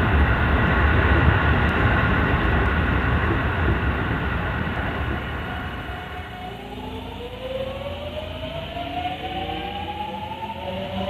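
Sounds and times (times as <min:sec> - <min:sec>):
electric train motors whining: 0:00.0 - 0:11.0
low running rumble: 0:00.0 - 0:11.0.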